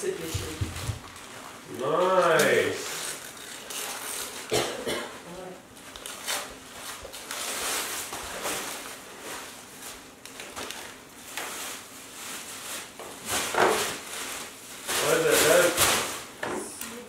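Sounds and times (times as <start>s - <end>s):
wrapping paper rustling and tearing: 0.3s - 4.6s, 5.8s - 16.4s.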